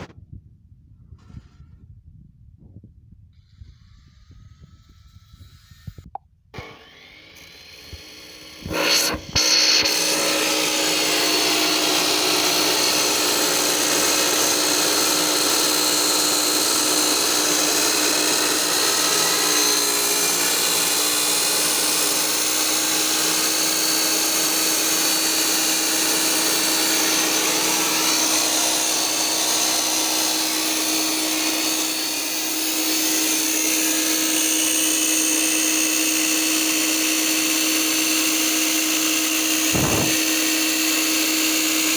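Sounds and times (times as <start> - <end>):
electric power tool motor whine: 3.4 - 41.9.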